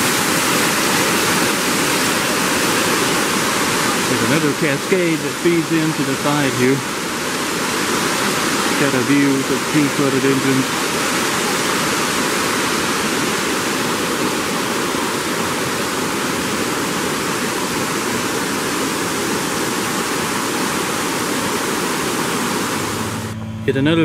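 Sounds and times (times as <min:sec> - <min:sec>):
waterfall rushing over rocks: 0:00.0 - 0:23.4.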